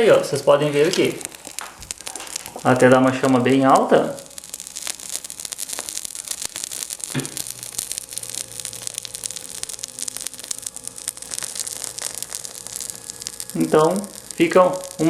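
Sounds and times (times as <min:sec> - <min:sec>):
faint hum: 0:00.0 - 0:15.0
steady hiss: 0:00.0 - 0:15.0
tea bag burning and crackling: 0:00.0 - 0:15.0.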